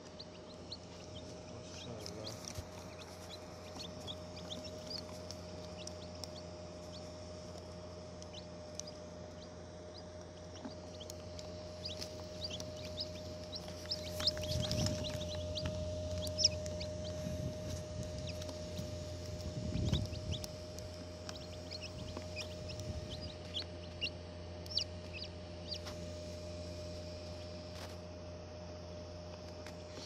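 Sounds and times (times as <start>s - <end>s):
chicks peeping: 0.0s - 26.2s
low bumps of chicks moving: 0.0s - 26.2s
small fan humming: 0.0s - 30.0s.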